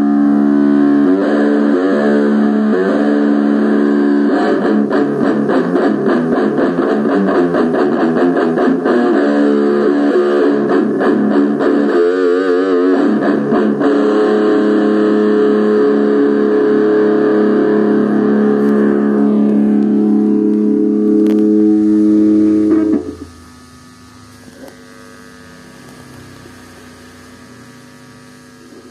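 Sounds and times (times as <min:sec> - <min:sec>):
electric guitar playing: 0:00.0 - 0:28.9.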